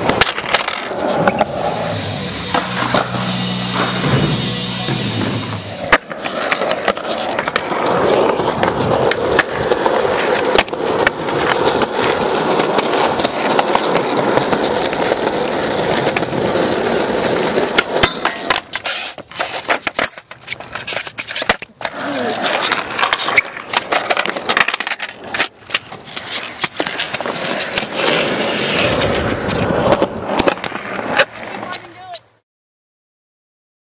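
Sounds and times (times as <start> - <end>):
skateboard clacks: 0.0 - 1.7, 2.4 - 32.4
skateboard wheels rolling on concrete: 0.0 - 32.4.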